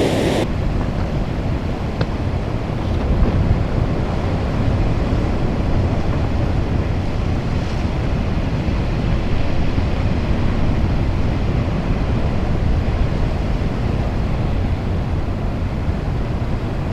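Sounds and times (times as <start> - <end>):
rough ocean surf: 0.0 - 16.9
wind buffeting microphone: 0.0 - 16.9.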